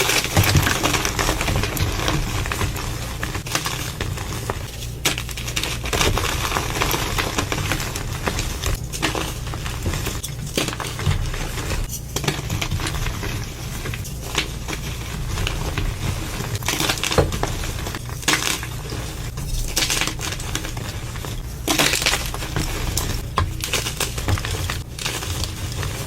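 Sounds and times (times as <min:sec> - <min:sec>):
concrete mixing scraping and crunching: 0:00.0 - 0:26.0.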